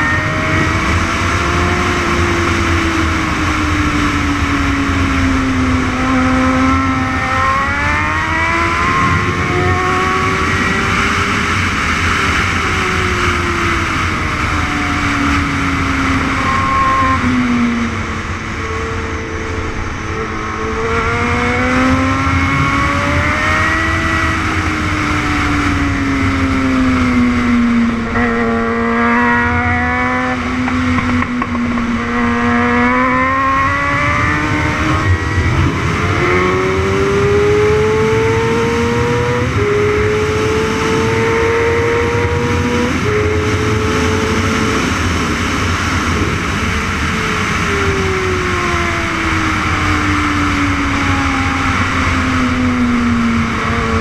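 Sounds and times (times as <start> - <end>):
racing motorcycle engine: 0.0 - 54.0.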